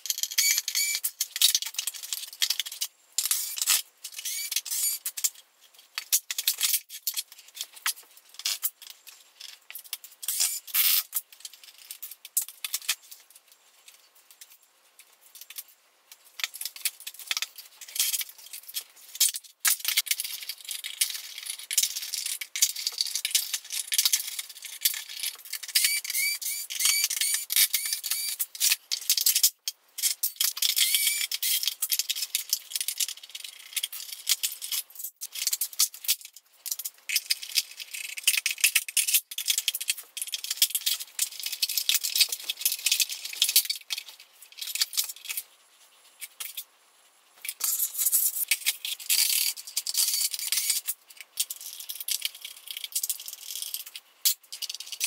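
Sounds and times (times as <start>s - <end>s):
tools and plastic parts clattering: 0.0s - 45.5s, 47.4s - 55.0s.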